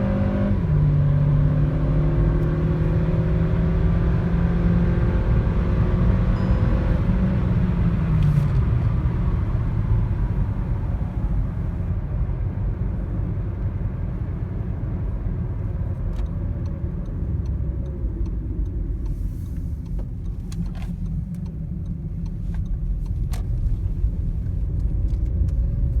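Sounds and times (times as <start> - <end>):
car engine: 0.0 - 26.0
road and wind rumble: 0.0 - 26.0.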